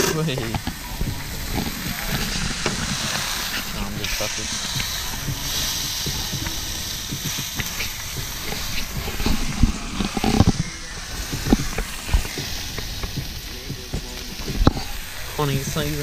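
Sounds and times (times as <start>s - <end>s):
meat sizzling in a frying pan: 0.1s - 16.0s.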